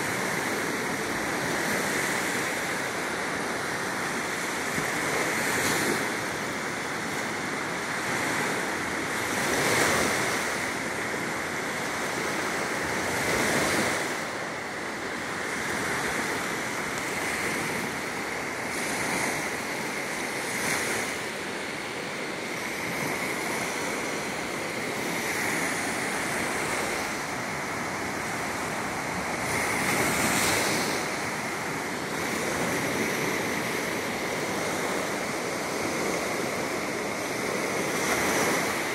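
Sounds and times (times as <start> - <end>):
waves washing up a beach: 0.0 - 38.9.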